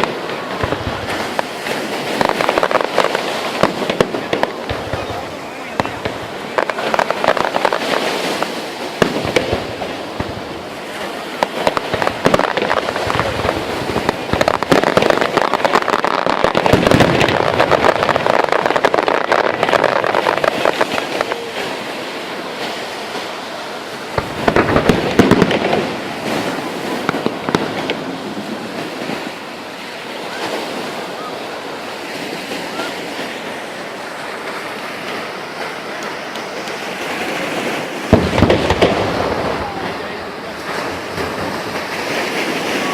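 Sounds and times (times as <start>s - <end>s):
fireworks crackling: 0.0s - 42.9s.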